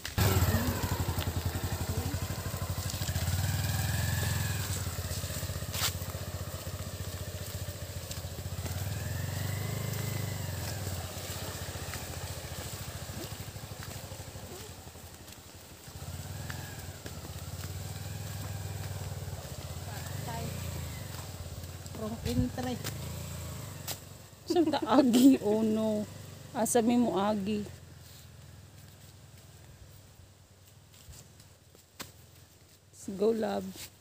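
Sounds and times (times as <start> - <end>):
motorcycle engine revving: 0.0 - 31.4.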